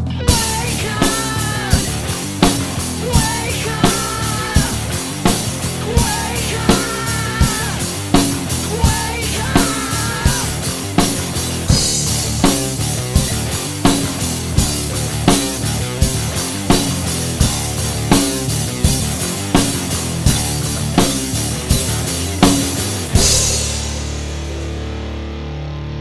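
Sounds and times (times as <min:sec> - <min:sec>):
drum kit rock groove: 0:00.0 - 0:26.0
rock backing track: 0:00.0 - 0:26.0.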